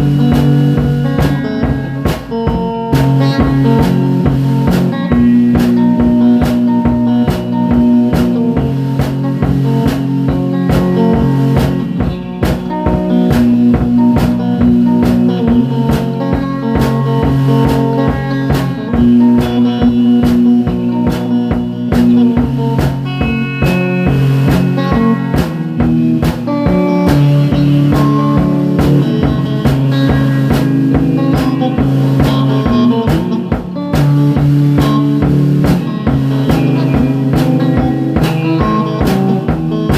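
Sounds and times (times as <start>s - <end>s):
blues-rock music: 0.0s - 39.9s
drum kit beat: 0.0s - 39.9s
electric guitar: 0.0s - 39.9s.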